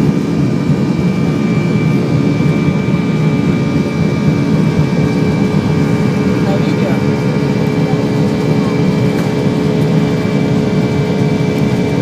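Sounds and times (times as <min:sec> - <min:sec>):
high engine whine: 0:00.0 - 0:12.0
jet engines rumbling: 0:00.0 - 0:12.0.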